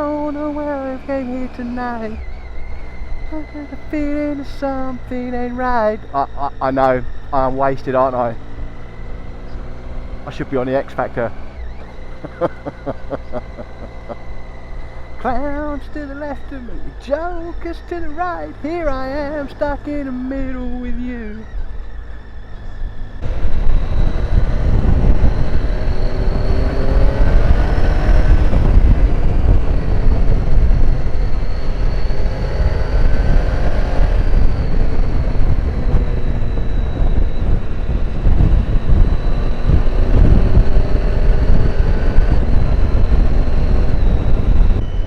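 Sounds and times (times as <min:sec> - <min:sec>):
motorcycle engine accelerating: 0:00.0 - 0:45.0
wind rumble on microphone: 0:00.0 - 0:45.0.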